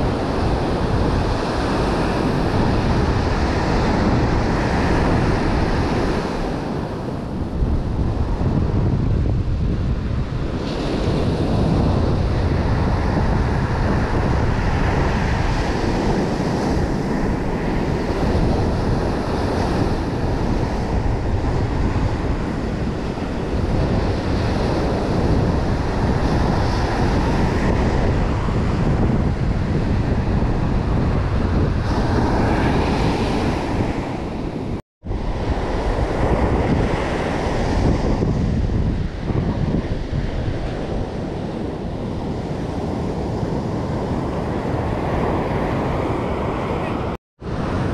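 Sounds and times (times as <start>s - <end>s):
surf washing up a beach: 0.0s - 47.9s
wind buffeting microphone: 0.0s - 47.9s.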